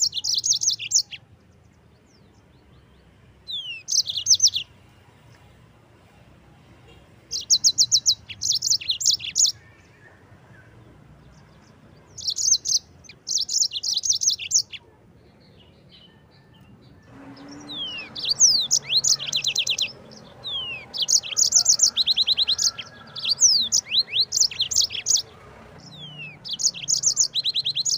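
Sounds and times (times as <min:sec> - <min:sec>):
canary singing fast trills: 0:00.0 - 0:04.8, 0:07.1 - 0:27.9.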